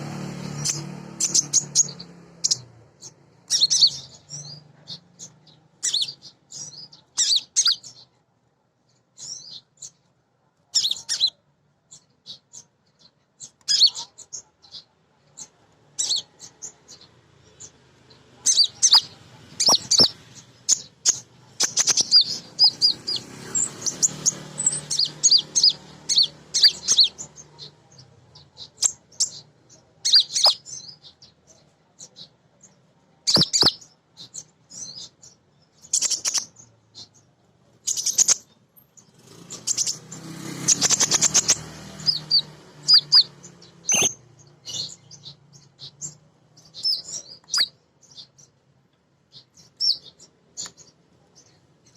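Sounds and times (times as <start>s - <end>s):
sunbird chirping: 0.0s - 8.2s, 10.7s - 48.6s, 49.2s - 51.9s.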